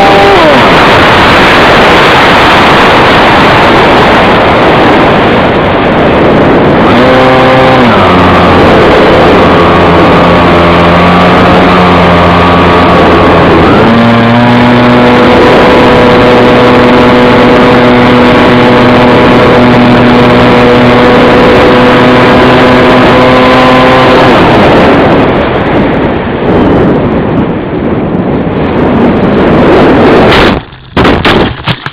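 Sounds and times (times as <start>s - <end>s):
engine running: 0.0s - 31.9s
wind noise rushing: 0.0s - 31.9s.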